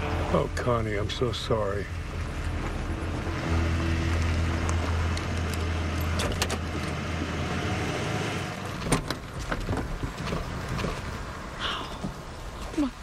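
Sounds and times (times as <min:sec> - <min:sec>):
truck engine running low: 0:00.0 - 0:11.8.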